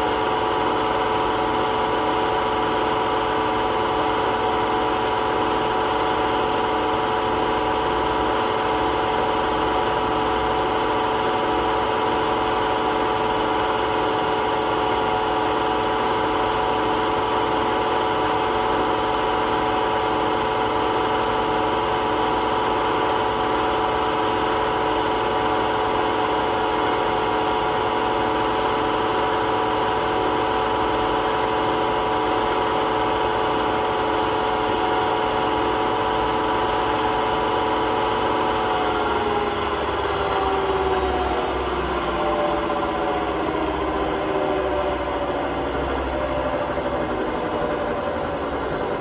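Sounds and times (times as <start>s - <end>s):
washing machine spinning: 0.0s - 49.0s.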